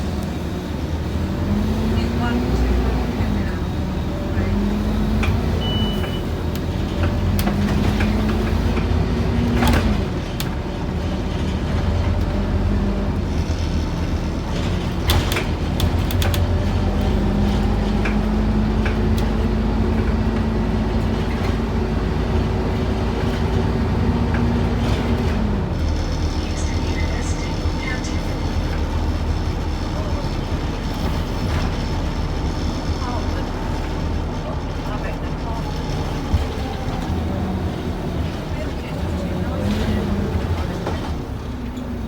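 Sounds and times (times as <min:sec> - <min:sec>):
bus engine: 0:00.0 - 0:42.0.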